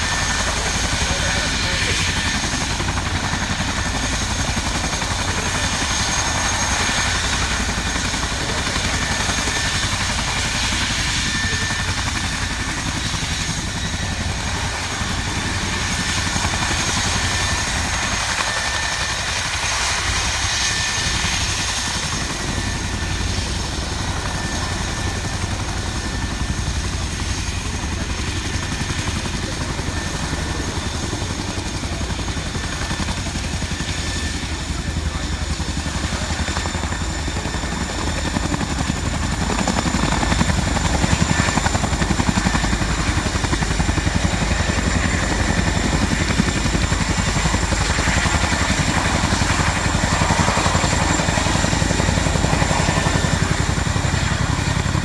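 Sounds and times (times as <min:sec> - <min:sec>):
helicopter rotor and engine noise: 0:00.0 - 0:55.0.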